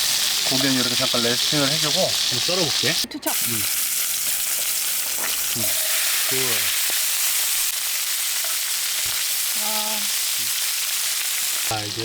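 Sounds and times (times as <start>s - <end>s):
steak sizzling in a frying pan: 0.0s - 12.0s.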